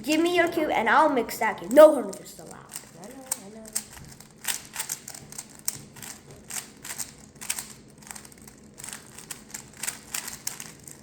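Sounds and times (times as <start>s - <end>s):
plastic puzzle cube clicking: 2.1s - 11.0s.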